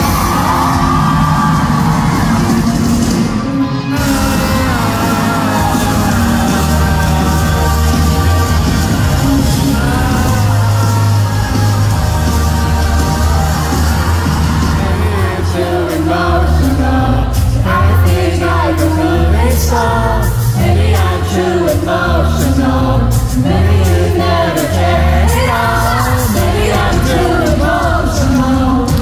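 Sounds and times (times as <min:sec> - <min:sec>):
booming bass: 0:00.0 - 0:29.0
live pop-rock band: 0:00.0 - 0:29.0.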